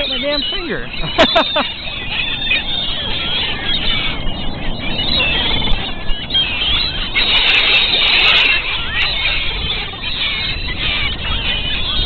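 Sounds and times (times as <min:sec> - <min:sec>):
gulls calling: 0:00.0 - 0:12.0
surf rushing: 0:01.2 - 0:12.0.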